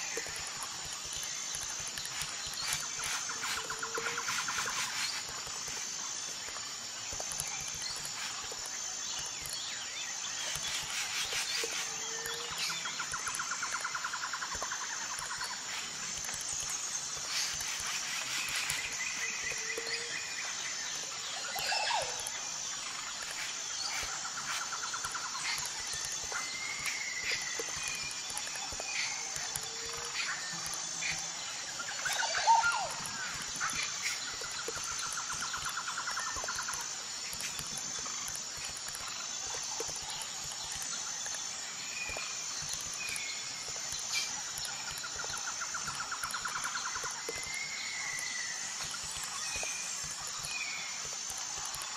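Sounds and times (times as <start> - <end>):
birds chirping and trilling: 0.0 - 51.1
high insect buzz: 0.0 - 51.9.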